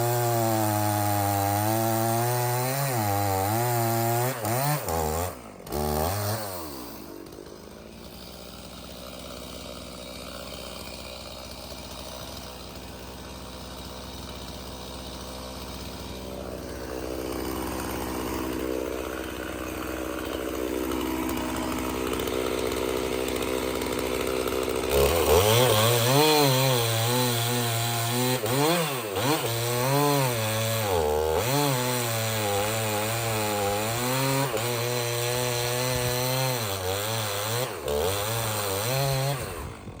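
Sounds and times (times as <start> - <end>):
chainsaw cutting wood: 0.0 - 40.0
chainsaw running: 0.0 - 40.0.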